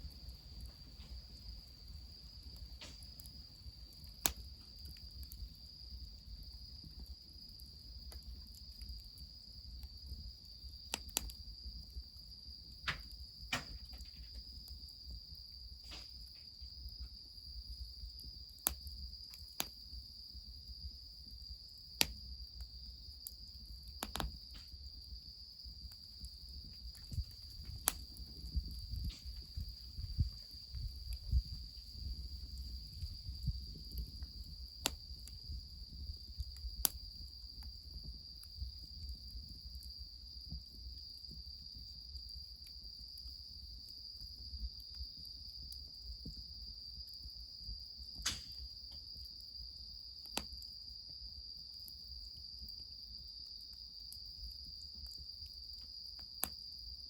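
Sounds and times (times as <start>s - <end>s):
wood fire crackling: 0.0s - 46.5s, 48.0s - 49.5s
high-pitched insect trill: 0.0s - 57.0s.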